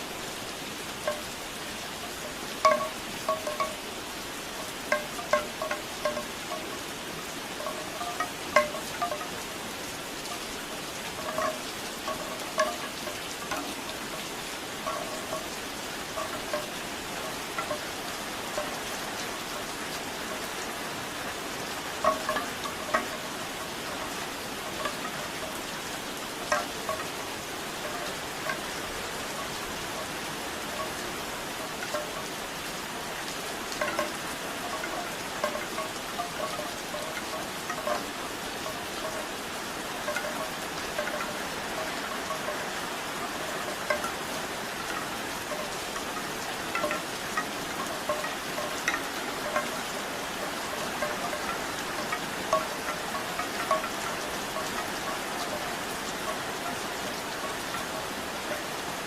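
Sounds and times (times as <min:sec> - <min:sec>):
bamboo wind chimes clacking: 0:00.0 - 0:59.0
steady rain: 0:00.0 - 0:59.0.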